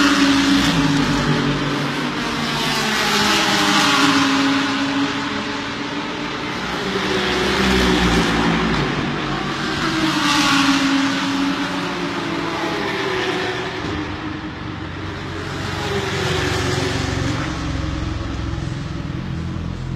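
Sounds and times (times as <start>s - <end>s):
racing car engines at high revs: 0.0s - 19.9s.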